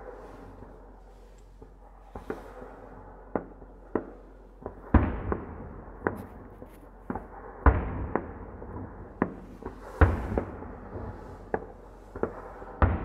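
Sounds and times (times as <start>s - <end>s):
firework booms with rolling echo: 0.0s - 13.0s.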